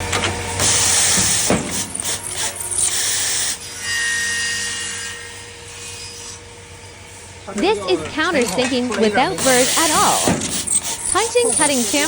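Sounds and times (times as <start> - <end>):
machine whine: 0.0 - 12.0
machine hissing cutting noise: 0.5 - 6.4, 7.6 - 12.0.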